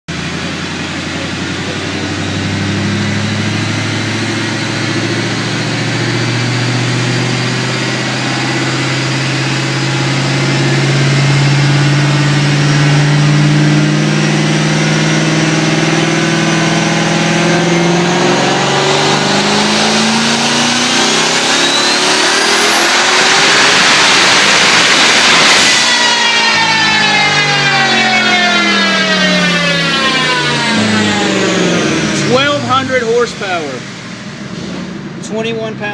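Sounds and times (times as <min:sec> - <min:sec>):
car engine at full throttle: 0:00.1 - 0:35.9
high turbo whine: 0:00.1 - 0:35.9.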